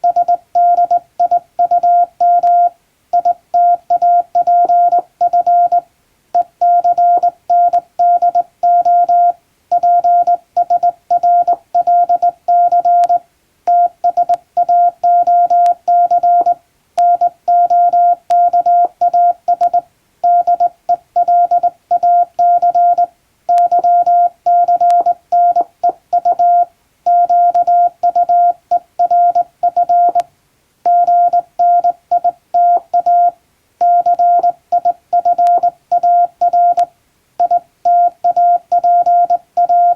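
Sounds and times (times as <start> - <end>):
hand-keyed morse code tone: 0.0 - 5.8, 6.4 - 30.2, 30.9 - 39.9.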